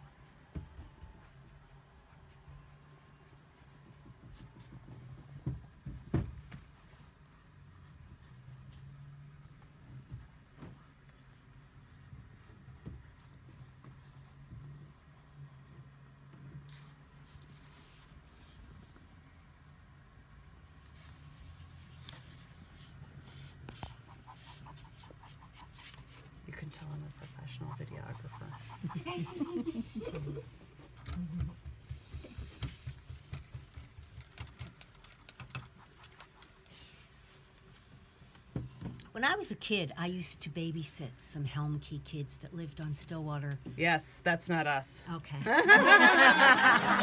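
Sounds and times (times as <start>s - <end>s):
paintbrush brushing on canvas: 0.0s - 34.1s, 34.8s - 38.8s.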